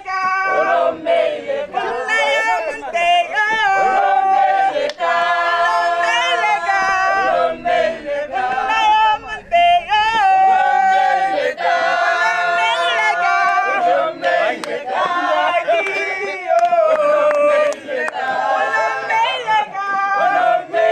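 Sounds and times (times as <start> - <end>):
group of voices chanting: 0.0 - 20.9.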